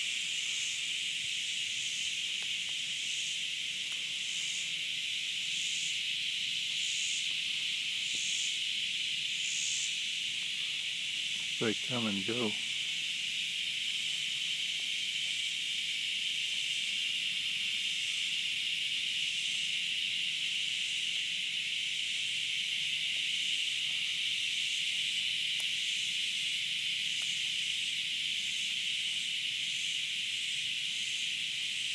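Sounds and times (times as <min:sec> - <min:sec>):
cicadas buzzing: 0:00.0 - 0:31.9.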